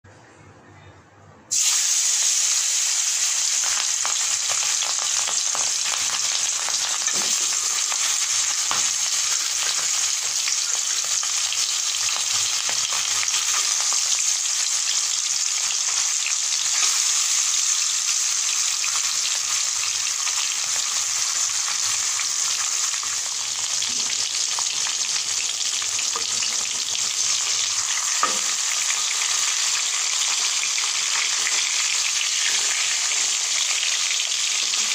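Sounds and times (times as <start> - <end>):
fish sizzling in hot oil: 1.5 - 34.9.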